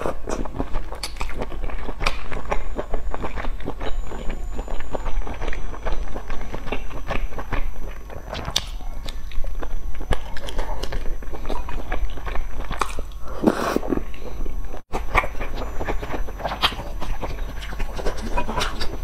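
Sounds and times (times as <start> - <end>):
chewing food: 0.0 - 19.0.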